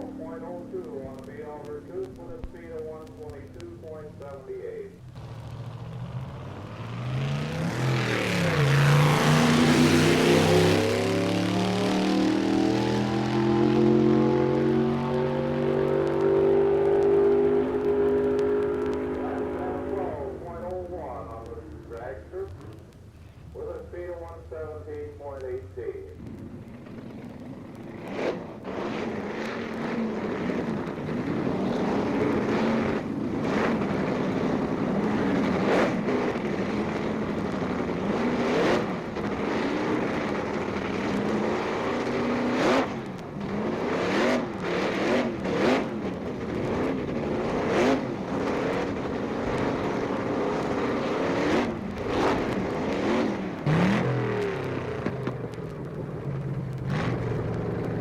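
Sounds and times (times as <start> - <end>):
racing engine throttle blips: 0.0 - 58.0.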